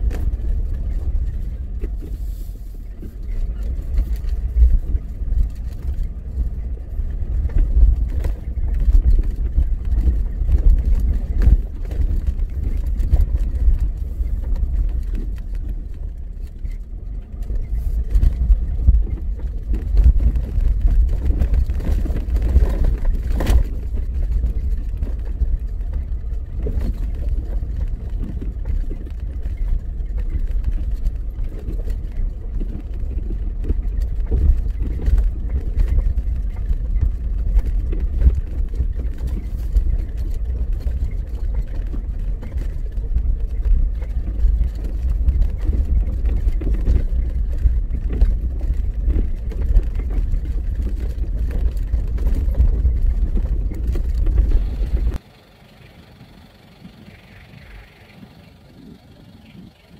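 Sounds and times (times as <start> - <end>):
vehicle rumbling on dirt road: 0.0 - 59.9
knocks and rattles: 2.9 - 55.2.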